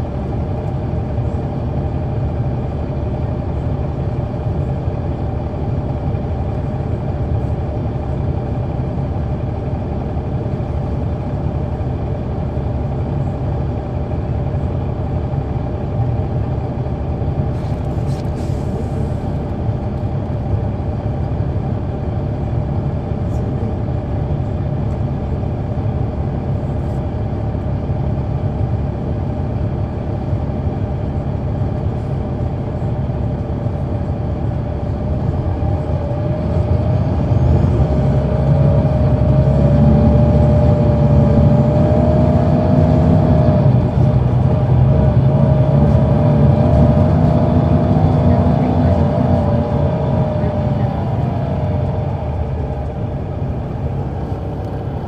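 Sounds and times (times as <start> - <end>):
bus diesel engine howling: 0.0 - 55.0
road rumble: 0.0 - 55.0.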